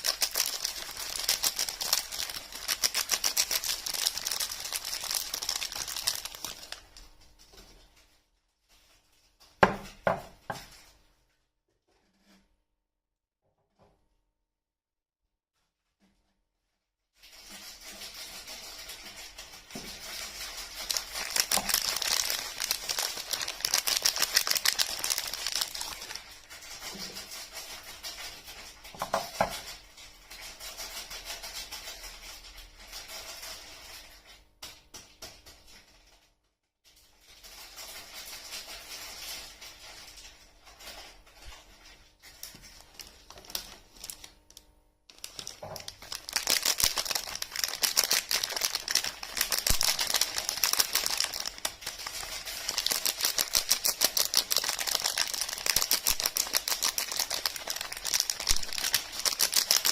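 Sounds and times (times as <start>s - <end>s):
wrappers crinkling and tearing: 0.0s - 9.6s, 17.2s - 34.3s, 37.1s - 59.9s.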